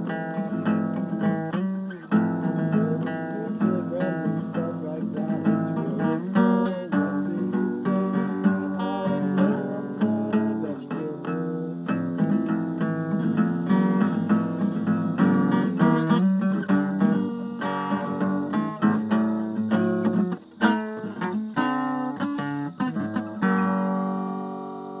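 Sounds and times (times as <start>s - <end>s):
acoustic guitar: 0.0s - 25.0s.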